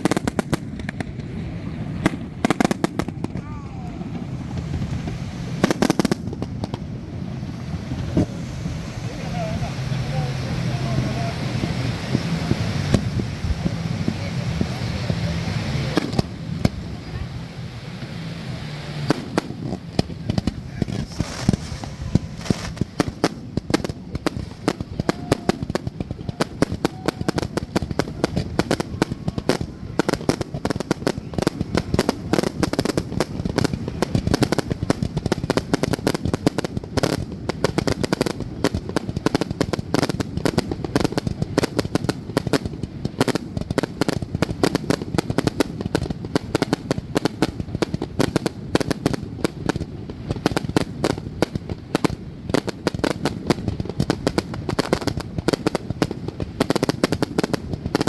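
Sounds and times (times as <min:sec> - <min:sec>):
fireworks barrage: 0:00.0 - 0:58.0.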